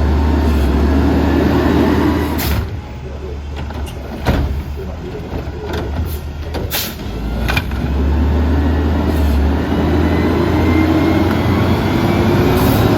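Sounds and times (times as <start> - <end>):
garbage truck diesel engine: 0.0 - 12.9.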